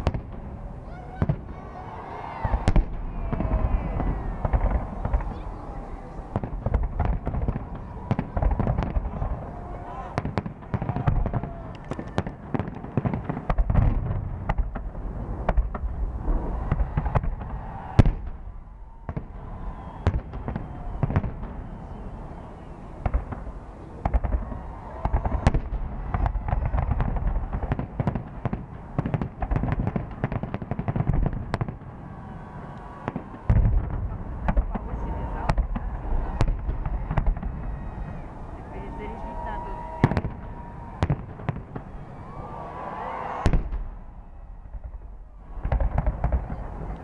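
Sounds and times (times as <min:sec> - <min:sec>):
fireworks bangs and booms: 0:00.0 - 0:47.0.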